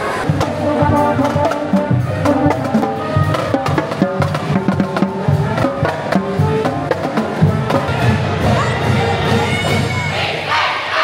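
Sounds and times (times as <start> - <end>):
snare and tenor drums: 0.1 - 10.3
brass holding notes: 0.2 - 9.8.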